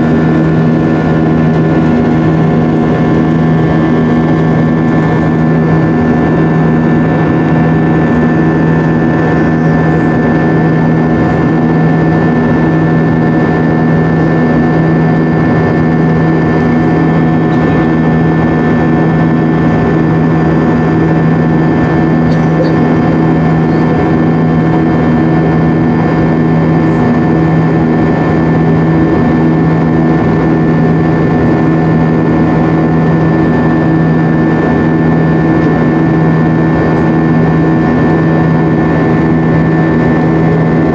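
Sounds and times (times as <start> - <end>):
jet engines droning in cabin: 0.0 - 40.9.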